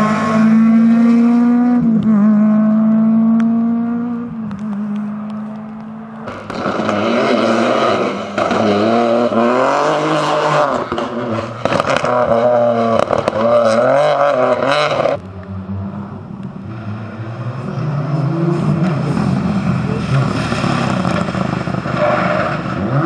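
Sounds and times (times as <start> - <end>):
lower engine: 0.0 - 23.0
rally car engines at full throttle: 0.0 - 23.0.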